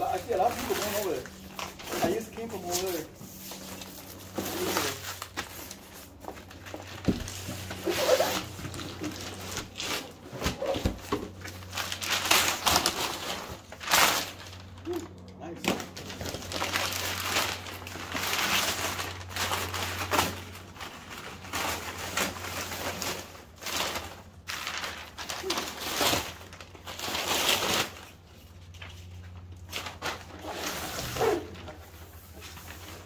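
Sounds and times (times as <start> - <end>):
paper wrap tearing and crinkling: 0.0 - 33.0.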